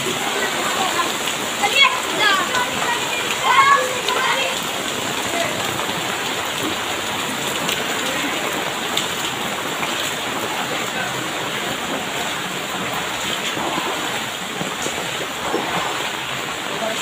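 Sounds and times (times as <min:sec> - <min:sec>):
heavy rain splashing on water: 0:00.0 - 0:17.0.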